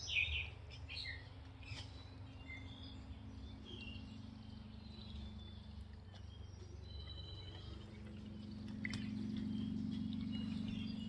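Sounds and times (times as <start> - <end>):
birds chirping: 0.0 - 11.0
low outdoor rumble and hum: 0.0 - 11.0.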